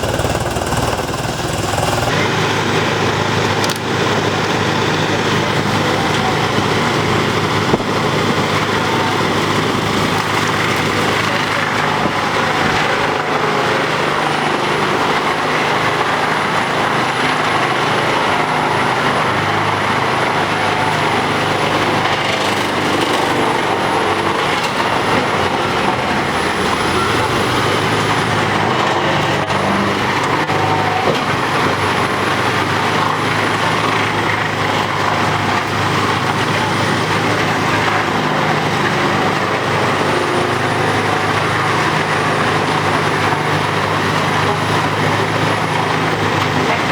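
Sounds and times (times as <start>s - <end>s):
wood chipper engine drone: 0.0s - 46.9s.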